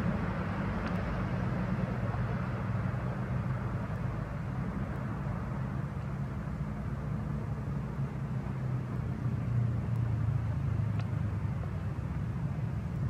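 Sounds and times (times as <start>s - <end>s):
diesel engines rumbling in traffic: 0.0s - 13.0s.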